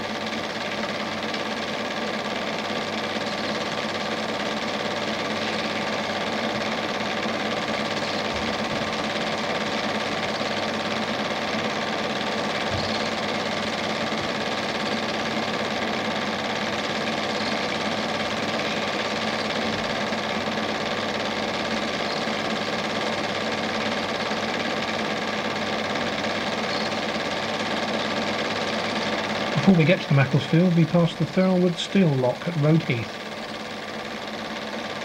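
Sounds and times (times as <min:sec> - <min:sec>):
film projector whirring: 0:00.0 - 0:35.0.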